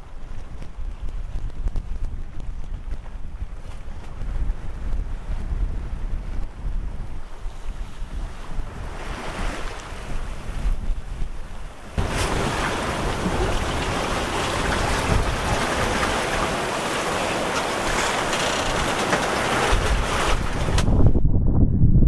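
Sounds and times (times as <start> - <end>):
choppy sea rushing: 0.0 - 21.2
wind buffeting microphone: 0.0 - 22.0.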